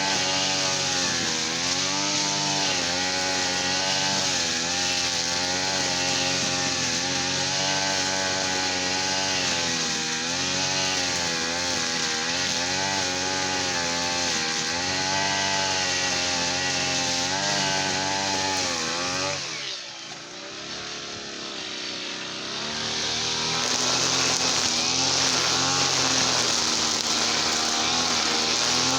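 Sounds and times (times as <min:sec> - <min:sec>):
brush cutter engine running: 0:00.0 - 0:28.9.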